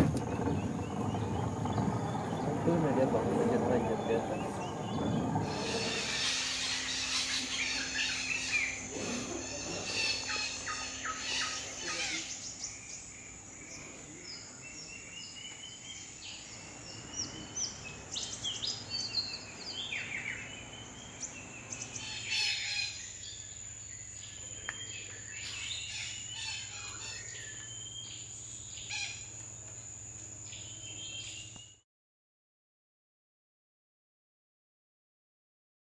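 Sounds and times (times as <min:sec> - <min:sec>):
birds chirping and whistling: 0:00.0 - 0:29.4, 0:30.4 - 0:31.8
high insect drone: 0:00.1 - 0:31.7.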